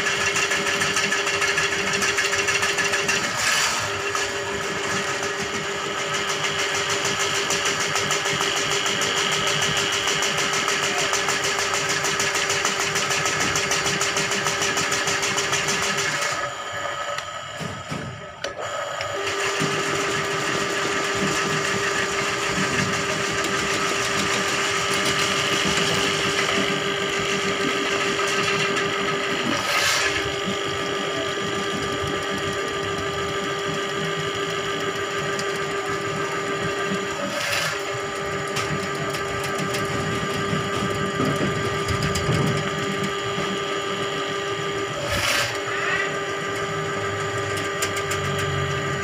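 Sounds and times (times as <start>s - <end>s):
drain cleaning machine motor humming: 0.0s - 49.0s.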